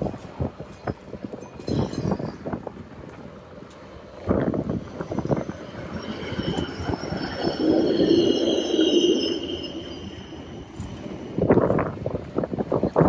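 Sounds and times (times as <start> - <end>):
tram rumble: 0.0 - 13.0
tram wheels squealing: 1.4 - 12.6.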